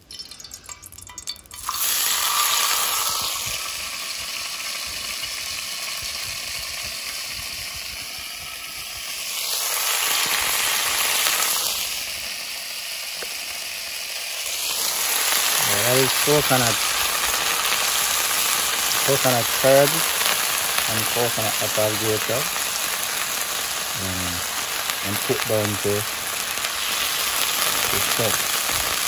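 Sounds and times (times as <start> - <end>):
butter sizzling in hot oil: 0.0 - 29.0.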